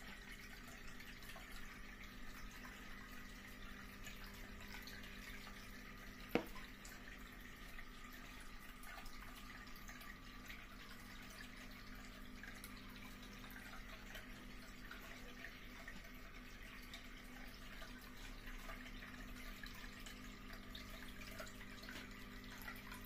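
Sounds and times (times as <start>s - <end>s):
fountain water trickling: 0.0s - 23.0s
low steady hum: 0.0s - 23.0s.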